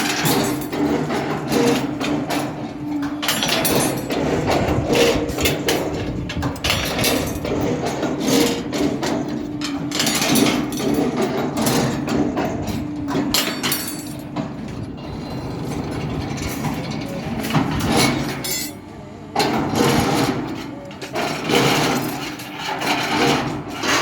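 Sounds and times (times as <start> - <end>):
metal clanks and rattles: 0.0 - 24.0.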